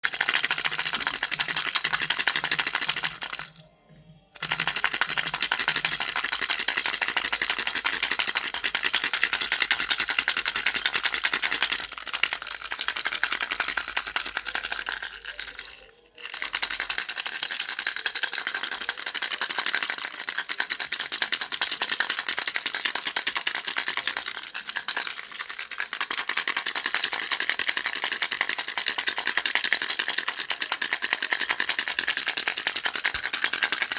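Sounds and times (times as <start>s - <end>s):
baby rattle shaken rapidly: 0.0s - 3.6s, 4.4s - 33.9s.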